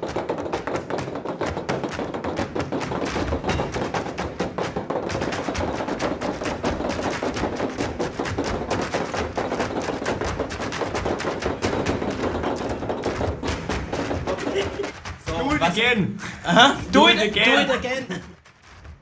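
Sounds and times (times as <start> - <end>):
fast clattering hard-shoe taps: 0.0 - 16.0
music: 0.0 - 19.0.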